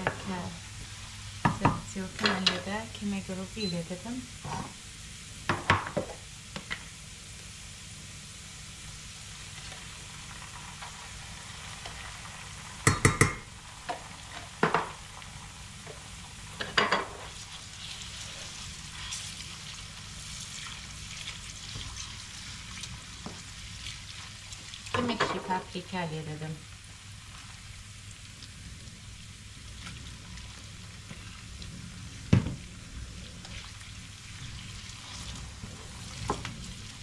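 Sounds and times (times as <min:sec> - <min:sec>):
food sizzling in a frying pan: 0:00.0 - 0:37.0.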